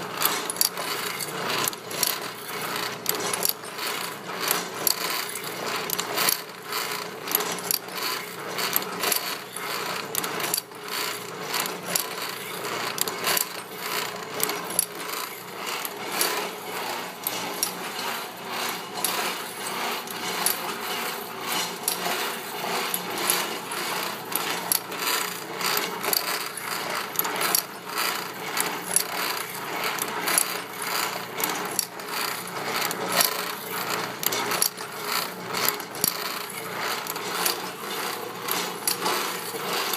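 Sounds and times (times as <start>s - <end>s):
metallic clicks and rasps: 0.0s - 39.9s
motor hum: 0.0s - 39.9s.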